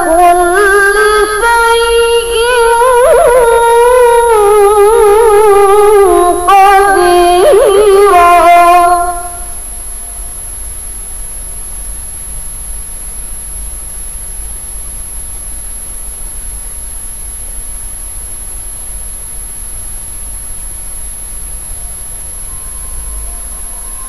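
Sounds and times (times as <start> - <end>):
background hiss and hum: 0.0 - 24.0
high-pitched whine: 0.0 - 24.0.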